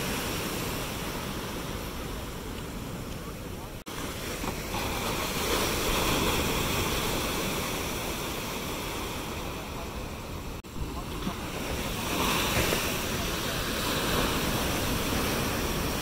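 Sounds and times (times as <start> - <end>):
heavy surf breaking on shore: 0.0 - 16.0.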